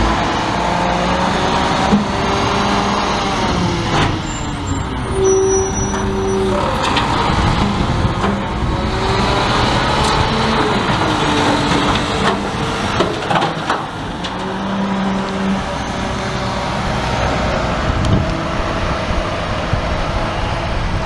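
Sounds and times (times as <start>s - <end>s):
garbage truck engine whining: 0.0s - 21.0s.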